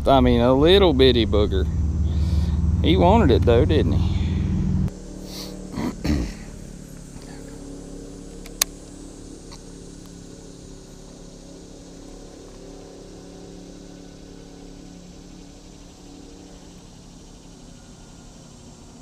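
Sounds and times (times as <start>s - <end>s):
trolling motor humming: 0.0s - 19.0s.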